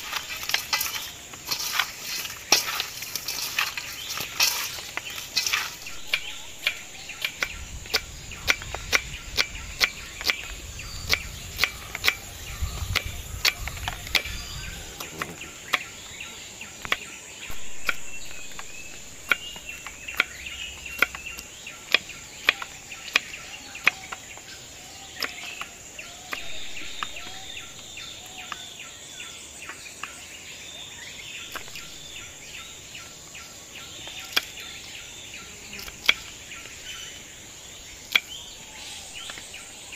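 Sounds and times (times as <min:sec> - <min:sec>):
faint bird calls: 0:00.0 - 0:39.9.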